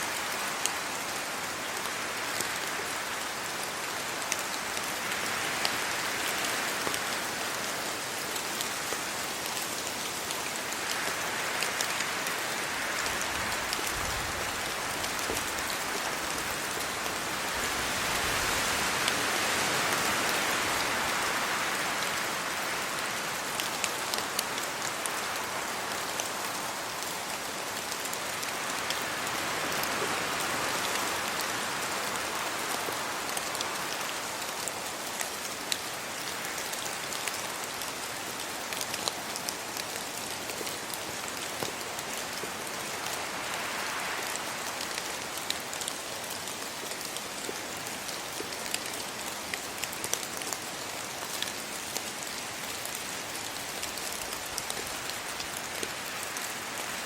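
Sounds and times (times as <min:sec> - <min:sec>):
rain on trees and leaves: 0:00.0 - 0:57.0
wind gusting through leaves: 0:00.0 - 0:57.0.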